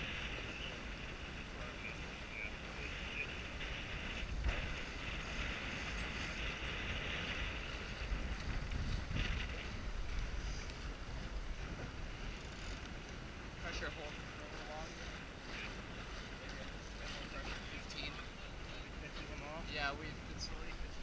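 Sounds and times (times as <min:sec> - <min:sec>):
water rushing past hull: 0:00.0 - 0:21.0
wind buffeting microphone: 0:00.0 - 0:21.0.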